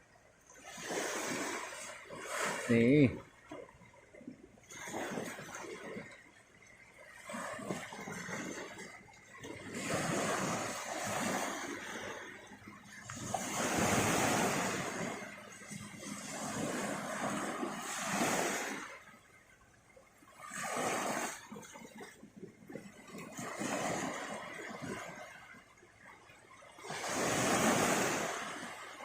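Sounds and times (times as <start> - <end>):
sea waves washing onto beach: 0.0 - 29.0.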